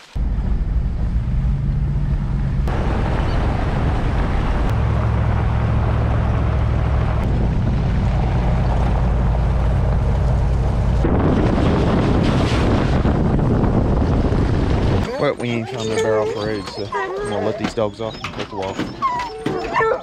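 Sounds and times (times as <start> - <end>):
road and wind noise: 0.0 - 20.0
truck engine: 0.0 - 20.0.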